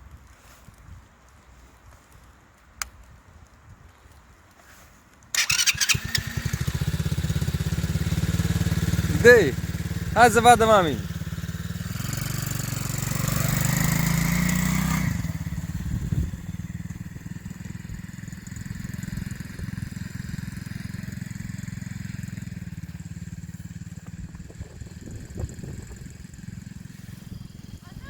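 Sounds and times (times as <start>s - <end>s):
small atv engine running: 5.3s - 28.0s.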